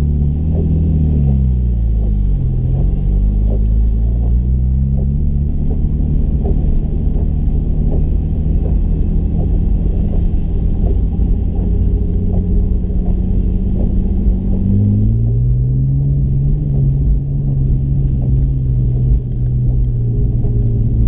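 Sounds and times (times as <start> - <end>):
engine running at low revs: 0.0 - 21.0
faint irregular engine ticks: 0.0 - 21.0.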